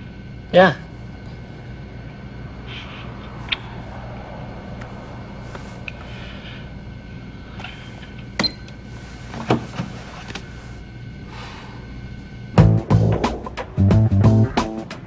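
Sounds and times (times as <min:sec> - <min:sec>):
low room tone hum: 0:00.0 - 0:15.0.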